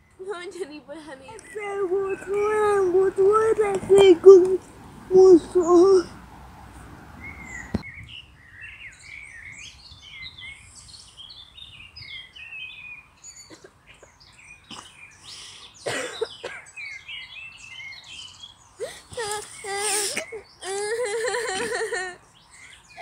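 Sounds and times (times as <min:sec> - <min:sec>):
small birds chirping and singing: 0:00.0 - 0:06.2, 0:07.2 - 0:23.0.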